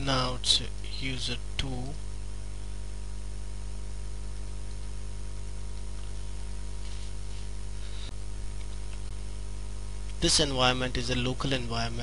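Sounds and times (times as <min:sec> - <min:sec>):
constant hiss: 0:00.0 - 0:12.0
electrical mains hum: 0:00.0 - 0:12.0.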